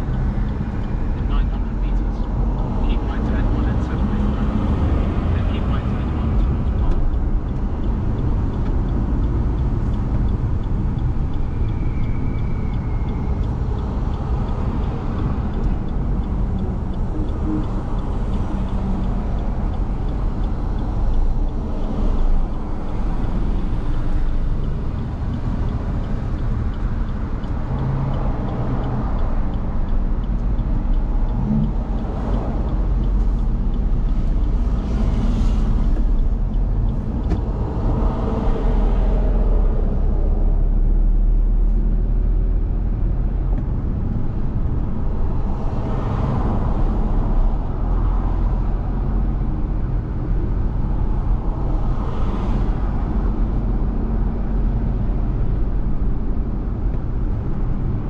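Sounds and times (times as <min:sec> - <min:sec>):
car driving on wet road: 0:00.0 - 0:58.0.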